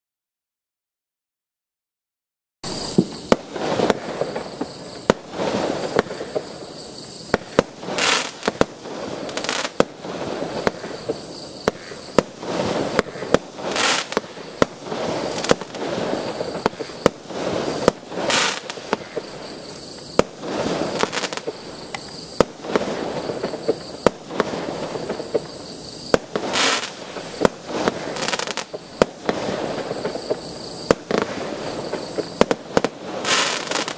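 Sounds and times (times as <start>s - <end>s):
firework bangs and cracks: 2.6s - 33.9s
firework crackling: 2.6s - 33.9s.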